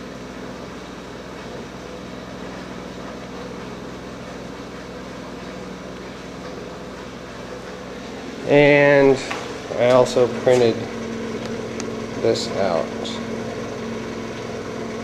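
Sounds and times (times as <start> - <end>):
pulse motor humming: 0.0 - 15.0.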